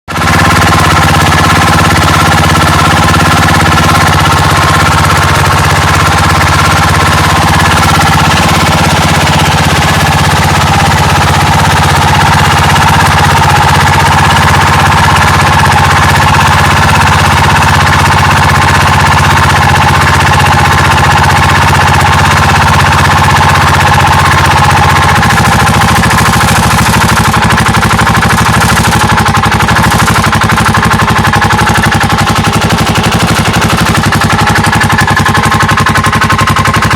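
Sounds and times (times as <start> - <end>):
loud fast rattling noise: 0.1 - 36.9
scooter engine running: 0.1 - 36.9.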